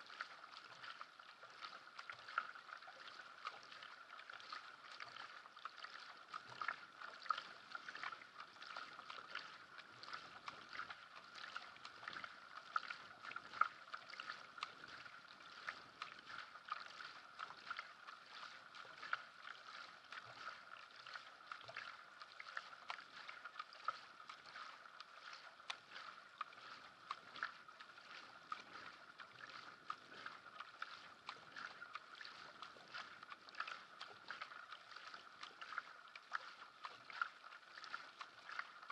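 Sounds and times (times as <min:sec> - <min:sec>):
paddle blades splashing: 0:00.0 - 0:38.9
water rushing along hull: 0:00.0 - 0:38.9.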